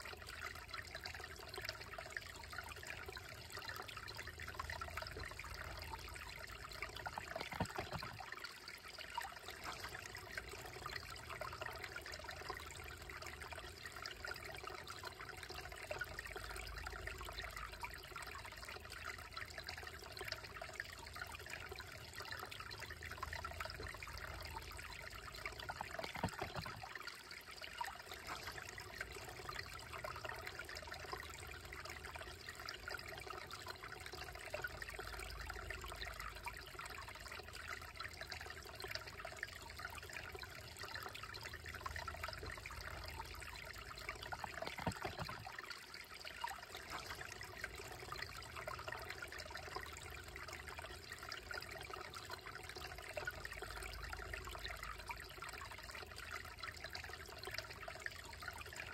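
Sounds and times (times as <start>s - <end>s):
creek trickling over rocks: 0.0s - 58.9s.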